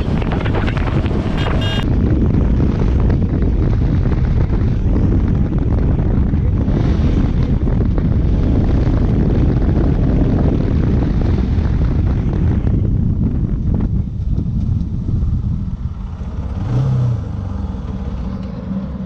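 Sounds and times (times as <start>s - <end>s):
motorcycle engine running hard: 0.0s - 16.7s
wind buffeting microphone: 0.0s - 19.0s.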